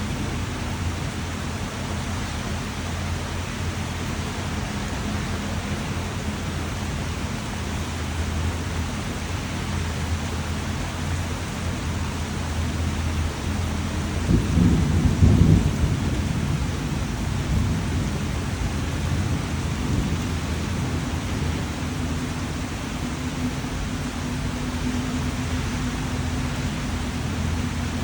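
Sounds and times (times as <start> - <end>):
low rumble of thunder: 0.0 - 10.5, 11.1 - 28.0
steady rain falling: 0.0 - 28.0.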